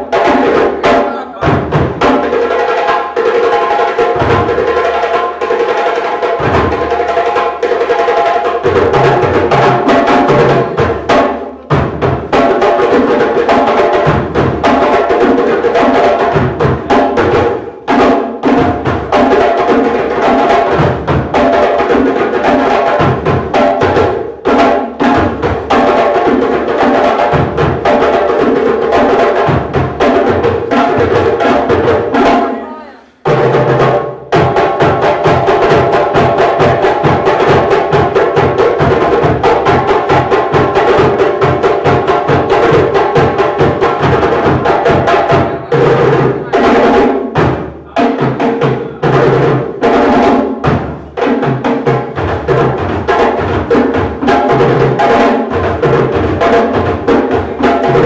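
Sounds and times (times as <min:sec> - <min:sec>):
hand drums playing fast rhythm: 0:00.0 - 0:58.0.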